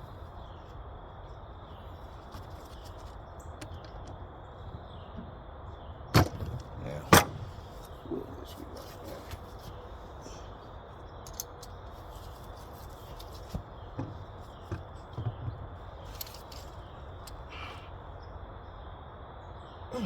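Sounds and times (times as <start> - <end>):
faint background noise: 0.0 - 20.0.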